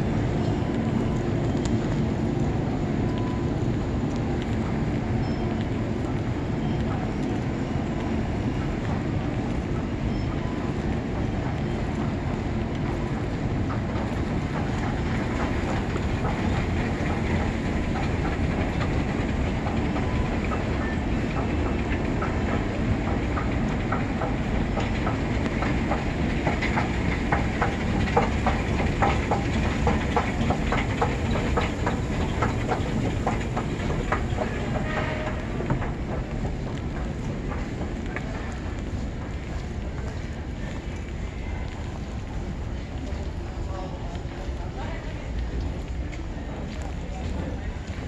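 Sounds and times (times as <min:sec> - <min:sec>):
escalator machinery rumble: 0:00.0 - 0:48.0
ventilation rumble: 0:00.0 - 0:48.0.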